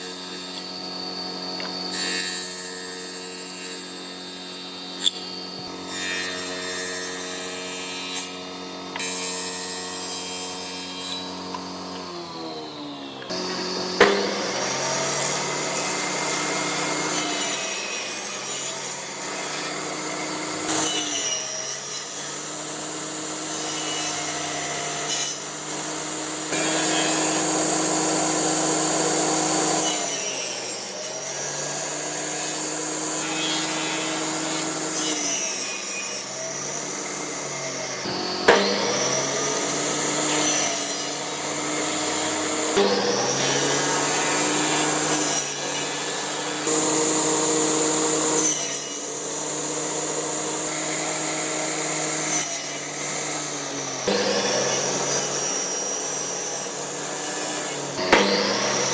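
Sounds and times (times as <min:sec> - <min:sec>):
power tool motor whine: 0:00.0 - 0:58.9
tool grinding against wood: 0:00.0 - 0:58.9.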